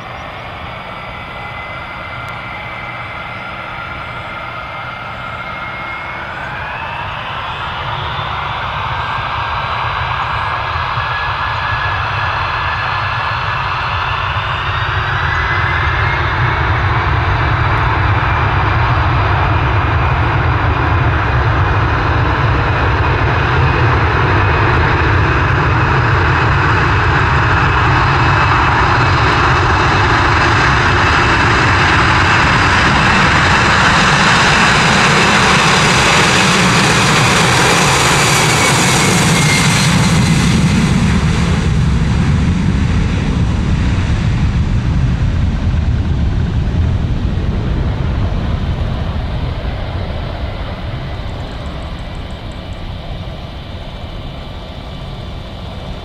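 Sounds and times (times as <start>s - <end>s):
high jet whine: 0.0s - 56.0s
jet engines roaring at takeoff: 0.0s - 56.0s.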